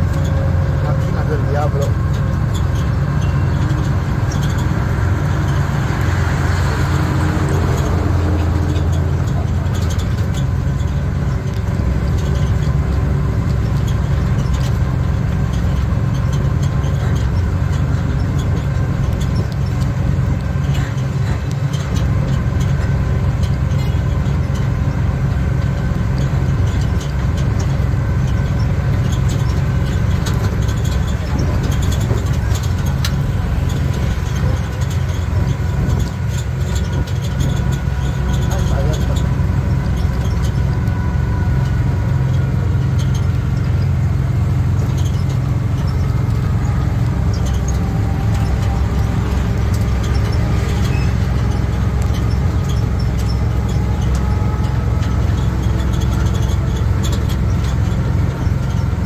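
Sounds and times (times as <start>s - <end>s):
road noise: 0.0s - 59.0s
vehicle engine rumbling: 0.0s - 59.0s.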